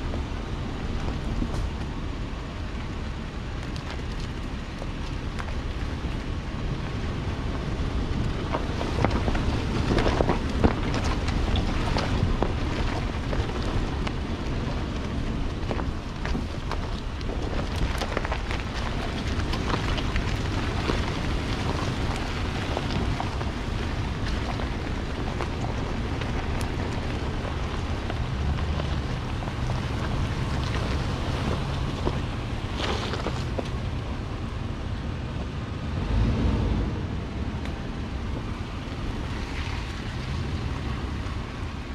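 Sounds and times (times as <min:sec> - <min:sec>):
vehicle engine and tyre rumble: 0:00.0 - 0:41.9
wind buffeting microphone: 0:00.0 - 0:41.9.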